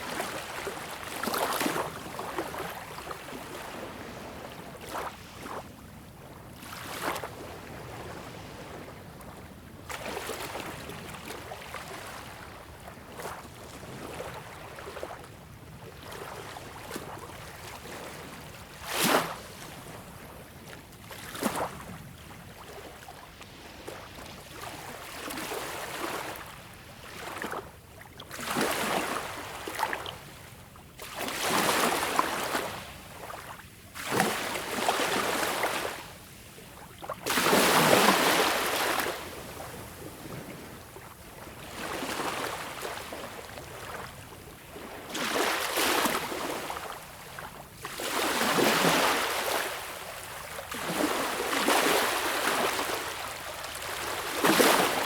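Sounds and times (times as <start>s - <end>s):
small waves lapping on shore: 0.0s - 55.0s.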